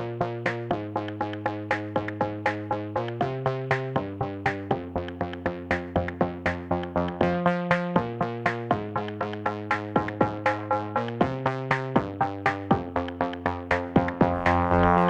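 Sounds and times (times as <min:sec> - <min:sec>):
electronic music with synthesizer: 0:00.0 - 0:15.0.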